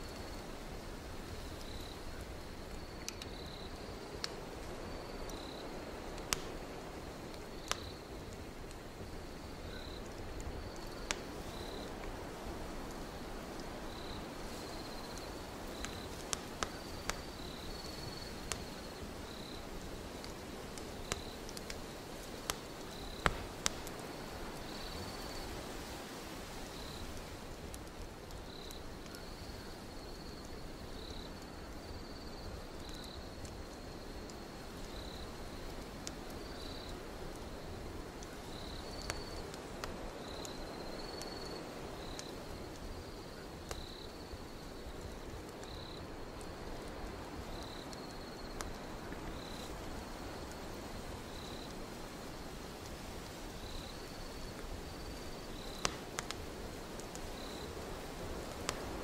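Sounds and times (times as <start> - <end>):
crickets chirping: 0.0 - 59.0
wood fire crackling and popping: 0.0 - 59.0.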